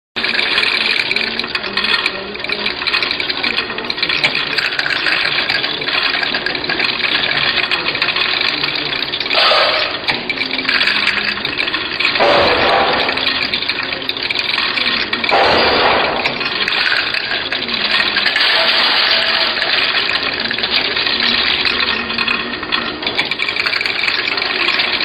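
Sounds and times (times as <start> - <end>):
tablets clattering on turntable: 0.2 - 25.0.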